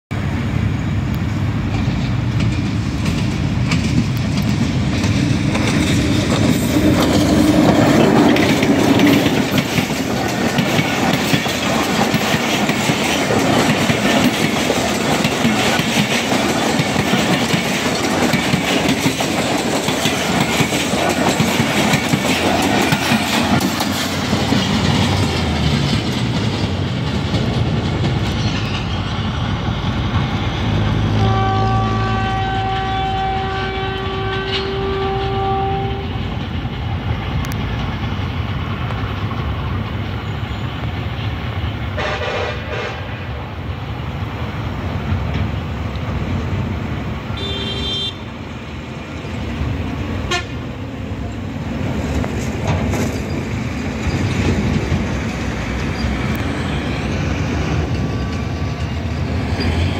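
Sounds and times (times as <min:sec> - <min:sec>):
diesel locomotive passing: 0:00.1 - 0:59.9
train wheels clattering over track: 0:00.1 - 0:59.9.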